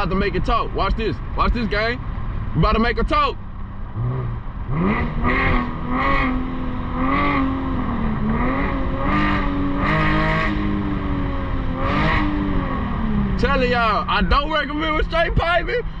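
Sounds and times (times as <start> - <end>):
car exhaust under hard acceleration: 0.0 - 16.0.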